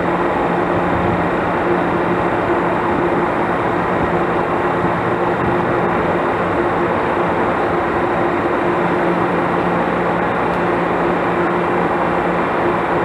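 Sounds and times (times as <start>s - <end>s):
engine drone: 0.0s - 13.0s
train rumbling past: 0.0s - 13.0s.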